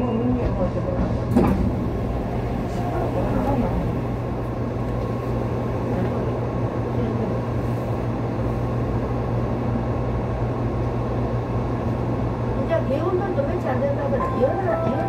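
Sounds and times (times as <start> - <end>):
train equipment hum and rumble: 0.0 - 15.0.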